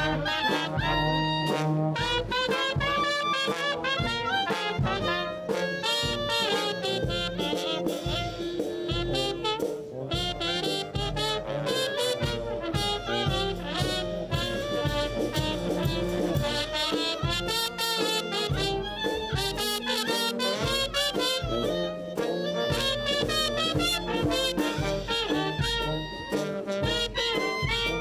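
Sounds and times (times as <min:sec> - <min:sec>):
jazz band with horns: 0:00.0 - 0:28.0.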